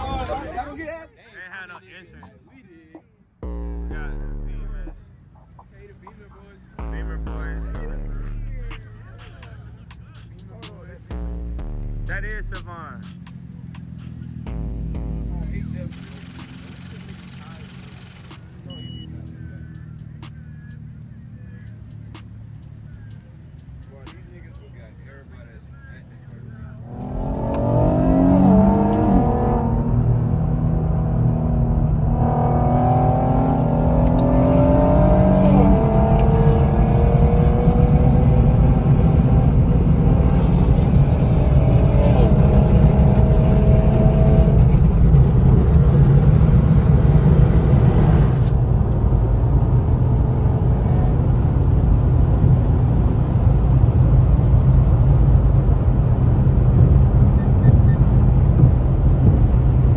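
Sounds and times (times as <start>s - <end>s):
road and wind noise: 0.0s - 3.6s, 7.8s - 59.9s
car engine accelerating: 3.4s - 59.9s.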